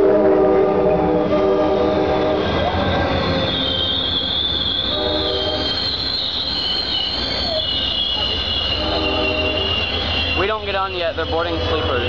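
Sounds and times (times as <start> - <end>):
train rumble: 0.0 - 12.0
train brakes squealing: 2.0 - 12.0.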